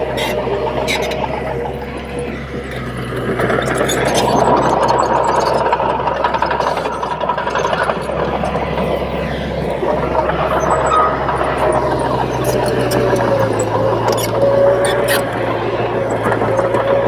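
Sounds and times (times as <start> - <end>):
bulldozer diesel engine running: 0.0 - 17.0
clicking and knocking clatter: 0.0 - 17.0.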